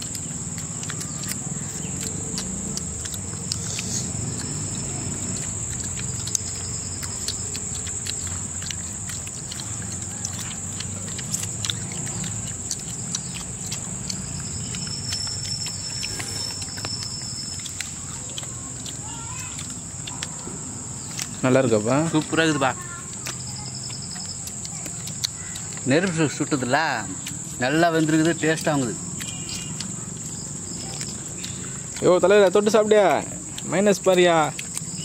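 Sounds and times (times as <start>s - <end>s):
high-pitched insect drone: 0.0s - 18.4s, 19.0s - 35.0s
mouths chewing: 0.0s - 35.0s.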